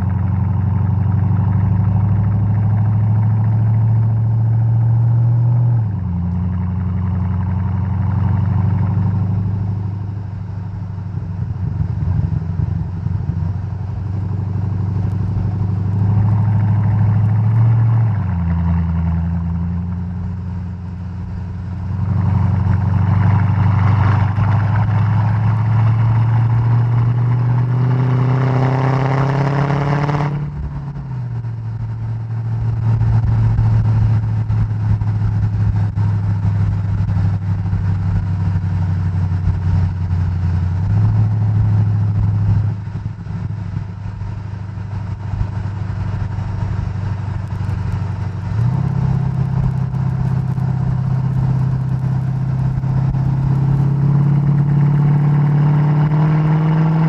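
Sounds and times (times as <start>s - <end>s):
car engine exhaust while driving: 0.0s - 57.0s.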